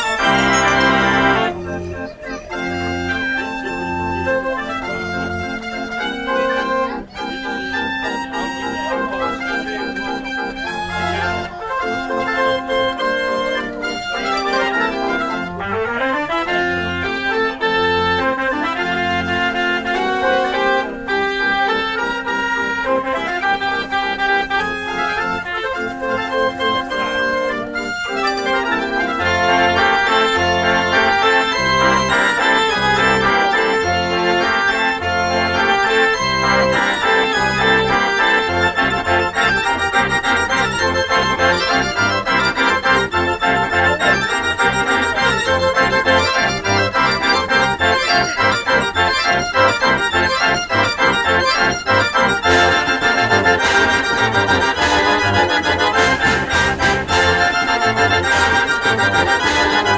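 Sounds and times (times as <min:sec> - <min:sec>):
fairground organ playing: 0:00.0 - 0:59.9
organ bass notes beating: 0:00.0 - 0:59.9.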